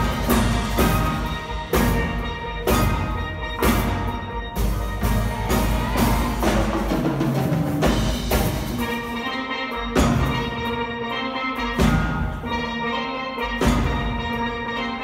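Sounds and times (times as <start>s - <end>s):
steel band playing: 0.0s - 15.0s.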